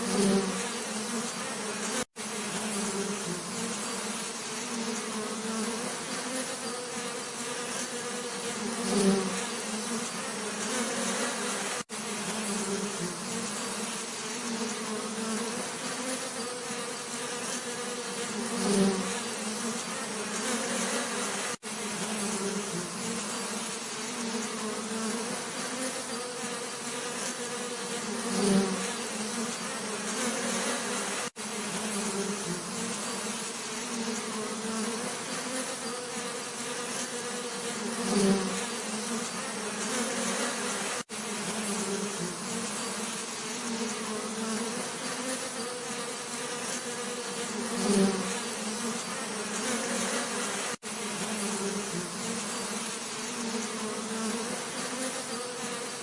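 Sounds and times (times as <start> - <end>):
bee passing close: 0.0 - 56.0
bees buzzing: 0.0 - 56.0.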